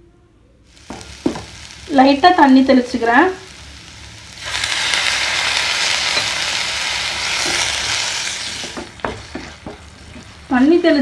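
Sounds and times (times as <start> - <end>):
oil sizzling: 0.7 - 11.0.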